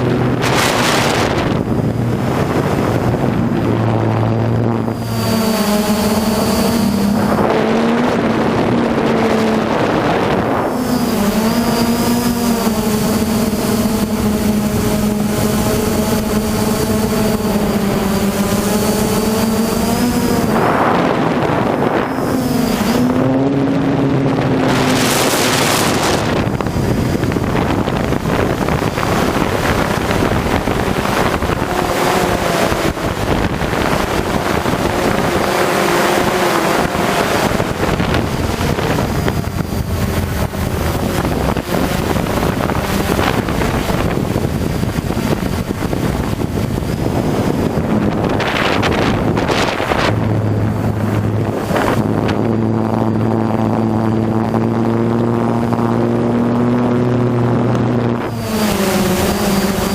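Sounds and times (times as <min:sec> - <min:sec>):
drone propellers whining: 0:00.0 - 0:59.9
wind buffeting microphone: 0:00.0 - 0:59.9.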